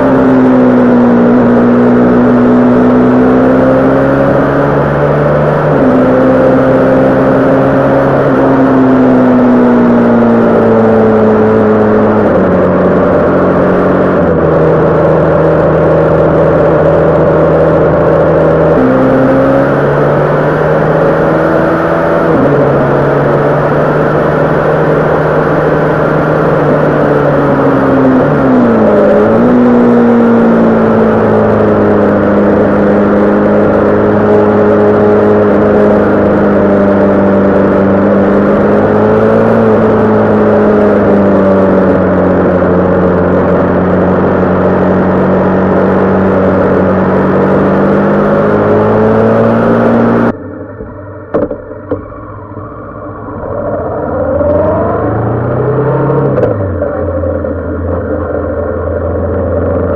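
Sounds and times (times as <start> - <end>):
motorcycle engine at speed: 0.0 - 59.9.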